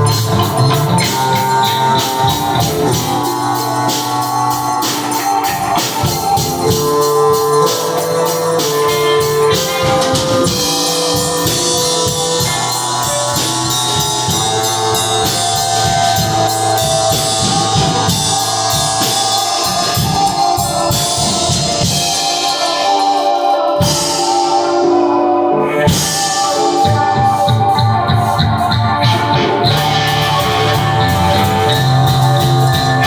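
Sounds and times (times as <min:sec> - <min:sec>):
held overlapping tones: 0:00.0 - 0:33.0
shaken percussion rhythm: 0:00.0 - 0:33.0.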